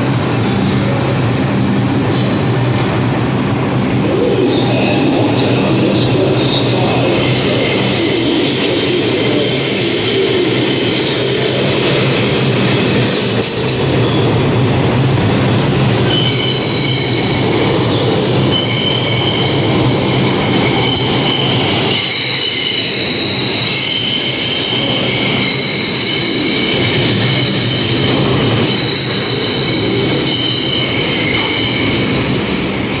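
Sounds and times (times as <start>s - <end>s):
subway train rumbling past: 0.0s - 33.0s
train wheels squealing: 2.1s - 2.5s, 6.3s - 14.4s, 15.1s - 33.0s.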